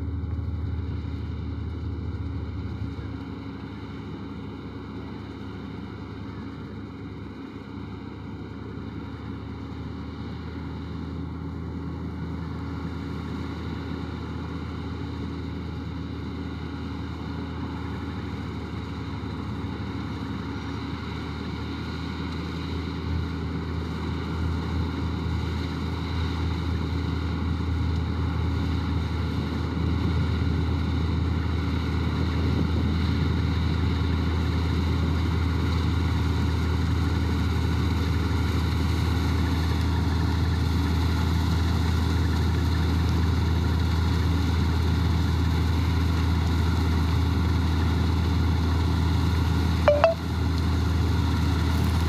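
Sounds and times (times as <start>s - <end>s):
combine harvester running: 0.0s - 52.0s.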